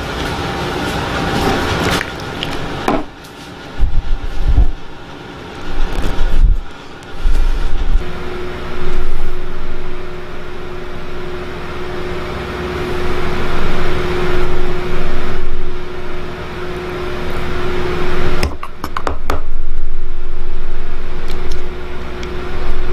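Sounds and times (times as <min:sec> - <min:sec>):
motor humming: 0:00.0 - 0:22.9.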